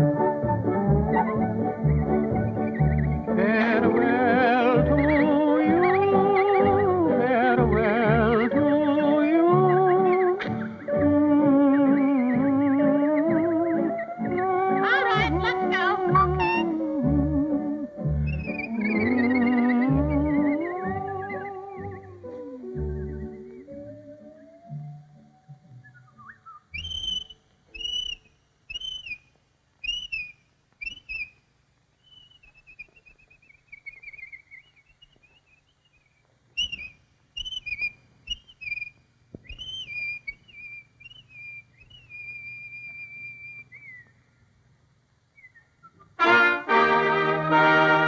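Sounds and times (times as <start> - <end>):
whistled bird calls: 0.5 - 7.2, 8.1 - 16.9, 18.2 - 24.8, 25.8 - 31.4, 32.0 - 44.2, 45.4 - 46.2.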